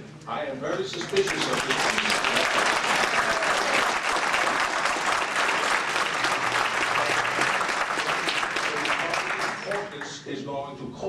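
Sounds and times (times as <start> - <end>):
audience applause: 0.9 - 10.2.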